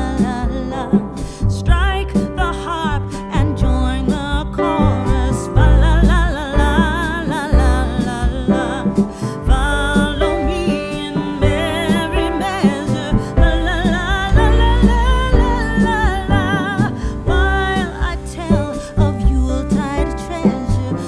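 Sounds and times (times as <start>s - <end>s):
steady low beat: 0.0s - 21.0s
vibrato lead voice singing: 0.0s - 21.0s.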